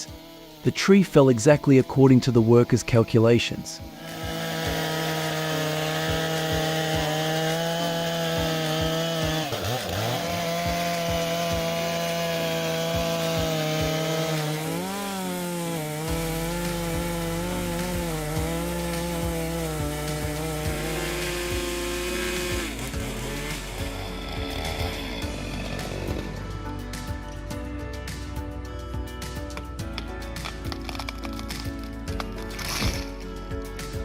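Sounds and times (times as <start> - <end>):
chainsaw cutting tree trunk: 0.0 - 28.4, 29.0 - 34.0.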